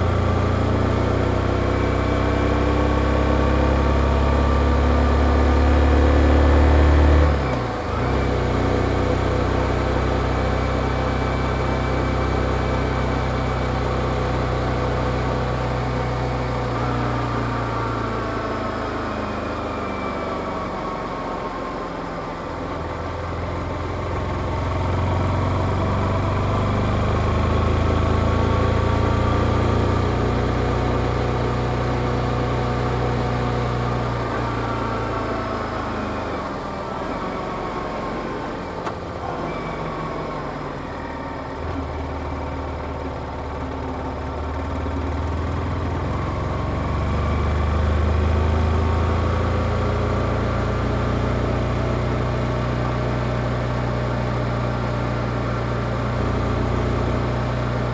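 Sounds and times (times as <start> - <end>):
motorcycle engine while riding: 0.0 - 57.9.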